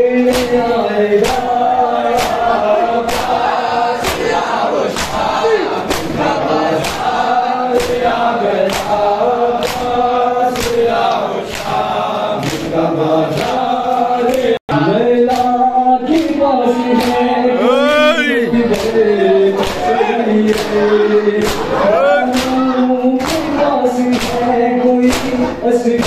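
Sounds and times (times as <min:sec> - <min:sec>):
men chanting in unison: 0:00.0 - 0:26.0.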